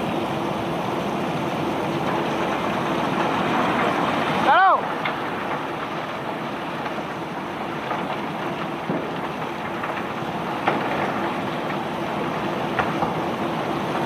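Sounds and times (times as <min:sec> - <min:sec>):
conveyor belt rattling: 0:00.0 - 0:14.0.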